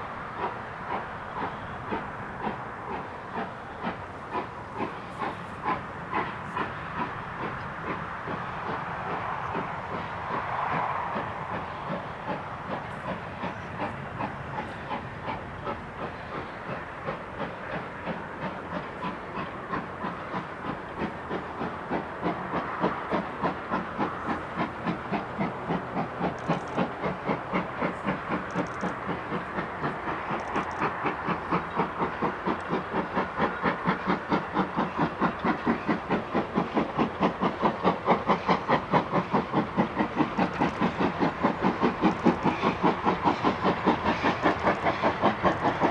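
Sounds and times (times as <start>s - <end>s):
steam hiss: 0.0s - 45.9s
steam locomotive exhaust chuffs: 0.0s - 45.9s.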